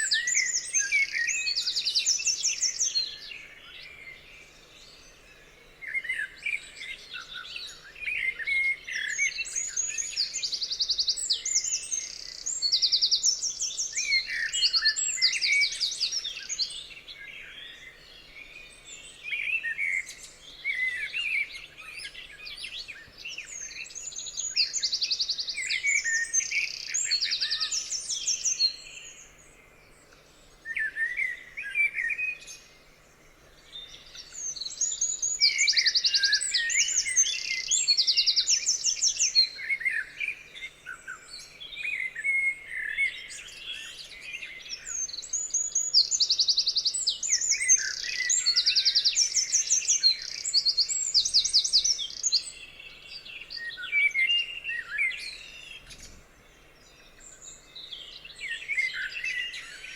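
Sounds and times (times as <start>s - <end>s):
songbirds singing with trills: 0.0s - 59.9s.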